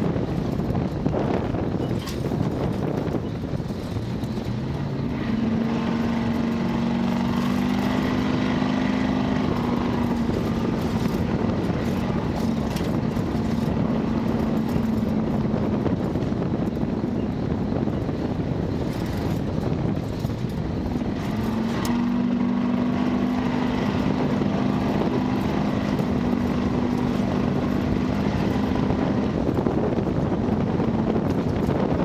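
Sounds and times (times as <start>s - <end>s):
road noise: 0.0s - 32.0s
truck engine running under load: 0.0s - 32.0s
wind noise: 0.0s - 32.0s.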